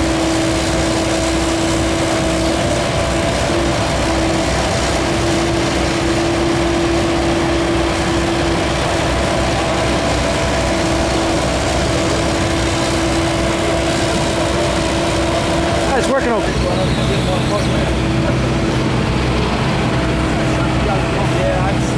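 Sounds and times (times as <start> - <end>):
constant hydraulic hum: 0.0 - 21.9
excavator diesel engine running: 0.0 - 21.9.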